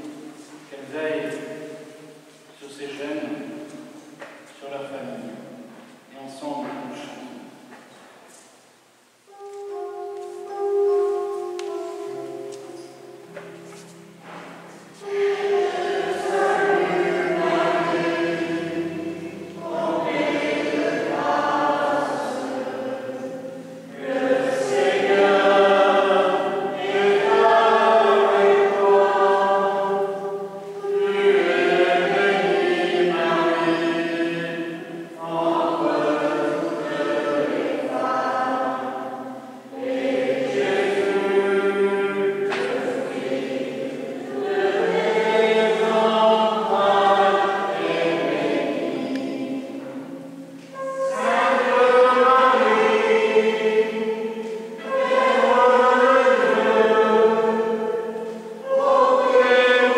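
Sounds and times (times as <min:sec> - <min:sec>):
church singing: 0:00.0 - 0:59.9.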